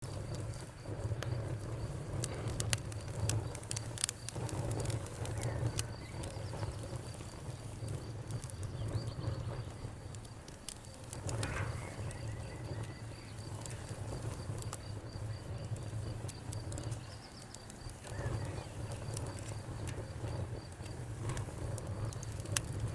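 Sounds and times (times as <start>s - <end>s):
wood fire crackling and popping: 0.0s - 22.9s
crickets chirping: 0.1s - 22.4s.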